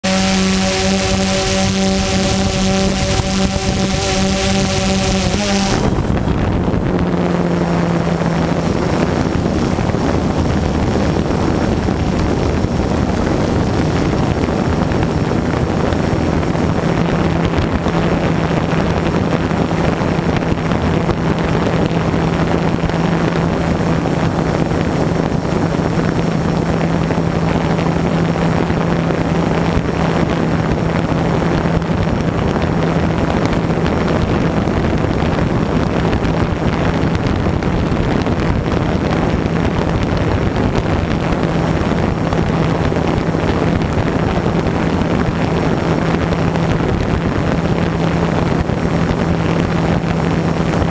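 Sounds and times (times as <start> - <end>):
drone motors humming: 0.0 - 50.9
wind on microphone: 0.0 - 50.9.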